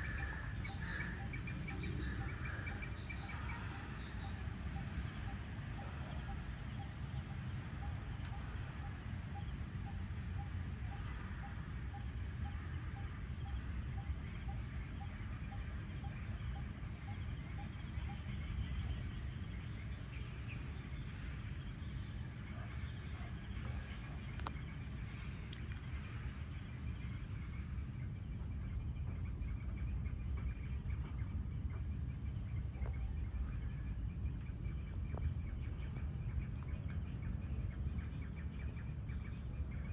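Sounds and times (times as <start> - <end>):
crickets and insects droning: 0.0 - 39.9
faint chirps: 0.0 - 39.9.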